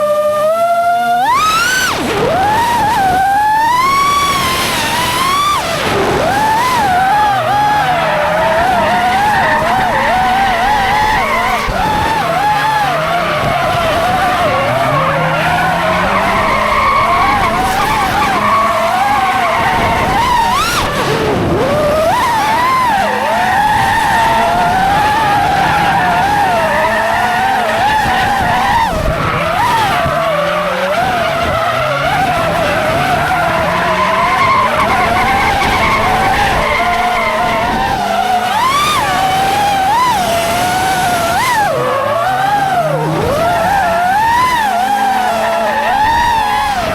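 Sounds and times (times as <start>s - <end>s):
car engines revving: 0.0s - 46.9s
tyres squealing: 1.2s - 46.9s.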